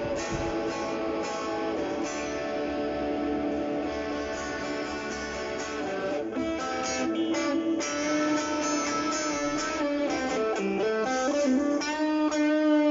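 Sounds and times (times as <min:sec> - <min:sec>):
electric guitar strumming chords: 0:00.0 - 0:12.9.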